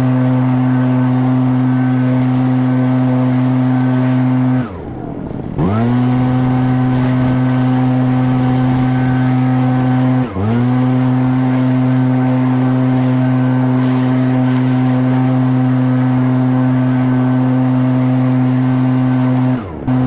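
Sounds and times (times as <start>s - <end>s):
leaf blower engine revving: 0.0s - 20.0s.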